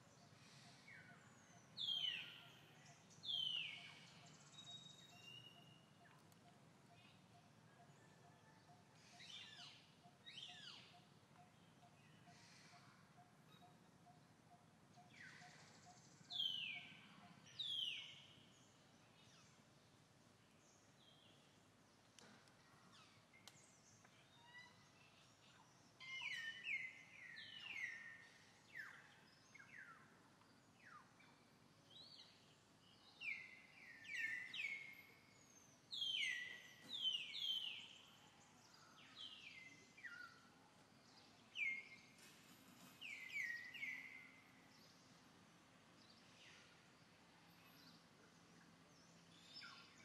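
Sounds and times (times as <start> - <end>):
faint outdoor background noise: 0.0 - 50.0.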